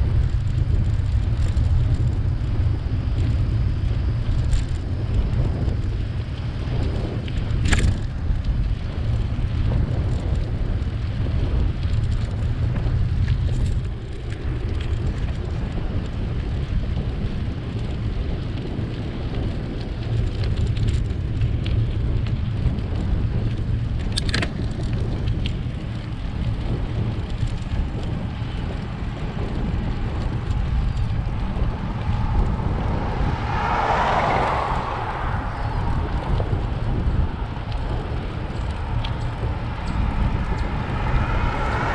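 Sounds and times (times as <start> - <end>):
road noise hiss: 0.0 - 41.9
wind buffeting microphone: 0.0 - 41.9.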